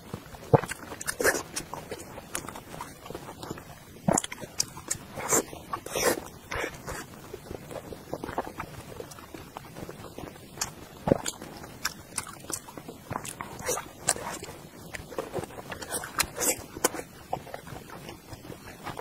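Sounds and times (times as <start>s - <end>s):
chewing and smacking: 0.2s - 19.0s.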